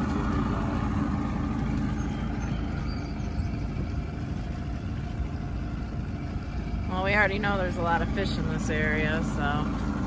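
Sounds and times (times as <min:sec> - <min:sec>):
outboard motor drone: 0:00.0 - 0:10.0.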